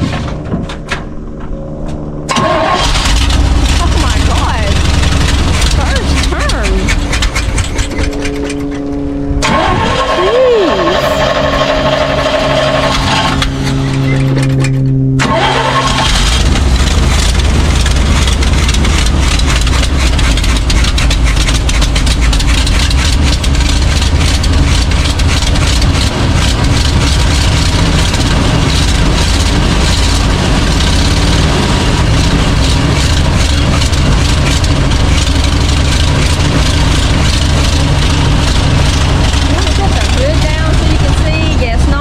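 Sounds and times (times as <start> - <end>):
truck engine running rough: 0.0 - 42.0.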